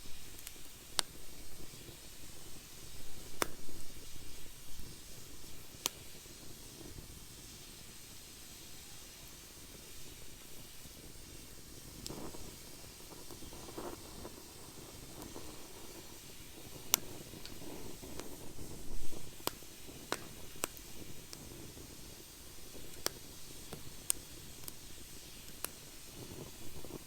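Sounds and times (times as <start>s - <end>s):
fire crackling pops: 0.0s - 8.5s, 9.2s - 27.0s
fire hissing: 0.0s - 27.0s.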